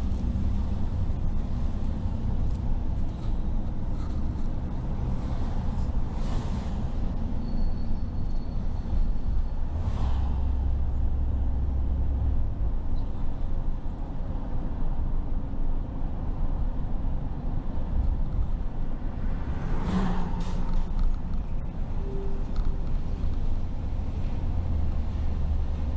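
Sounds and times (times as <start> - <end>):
car road rumble: 0.0 - 25.9
vehicles passing: 0.0 - 25.9.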